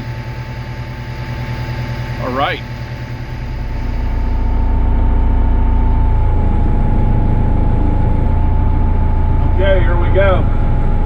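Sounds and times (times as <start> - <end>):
heavy machine engine running: 0.0 - 11.0
thin steady whine: 0.0 - 11.0.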